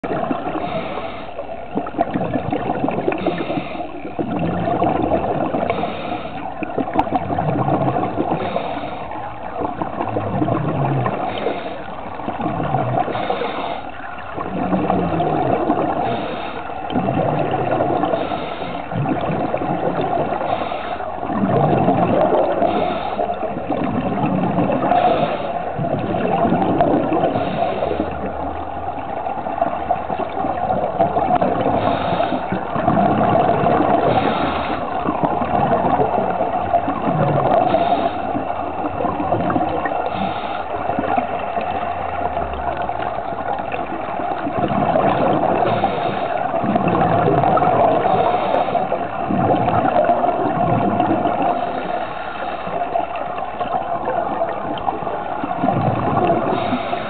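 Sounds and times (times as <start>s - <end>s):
running water gurgling: 0.0s - 57.0s.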